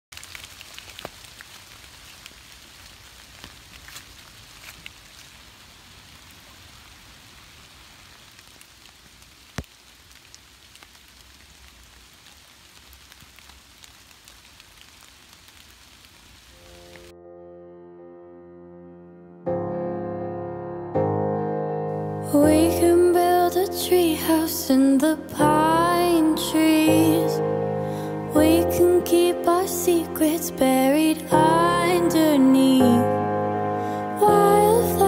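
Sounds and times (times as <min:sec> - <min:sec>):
light rain on leaves: 0:00.1 - 0:17.1, 0:22.2 - 0:35.0.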